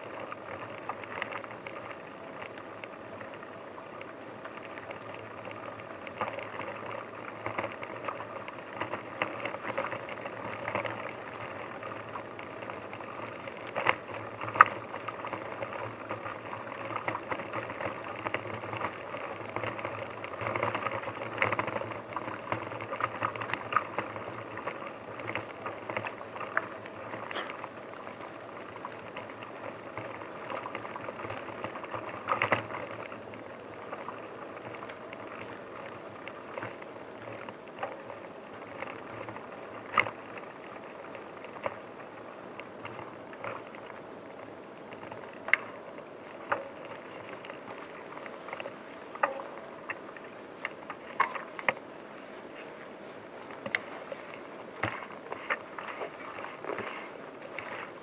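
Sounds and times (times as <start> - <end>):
rustling with crackles: 0.0 - 58.0.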